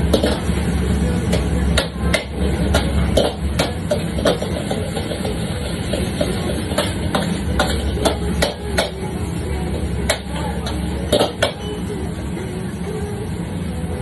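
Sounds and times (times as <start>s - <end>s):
metal utensils clanking on woks: 0.0s - 11.9s
low roar of wok burner: 0.0s - 14.0s.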